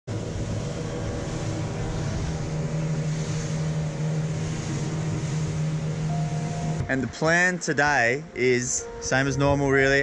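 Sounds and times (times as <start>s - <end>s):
motorboat engine running: 0.1s - 10.0s.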